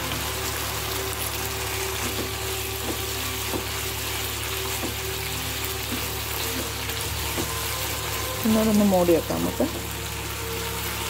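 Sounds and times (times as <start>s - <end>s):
curry sizzling in a wok: 0.0s - 11.0s.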